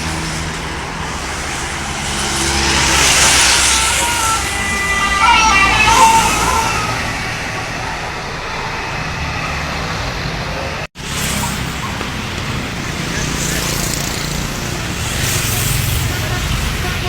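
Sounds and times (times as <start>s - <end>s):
bus engine running: 0.0s - 17.0s
tyre and road noise: 0.0s - 17.0s.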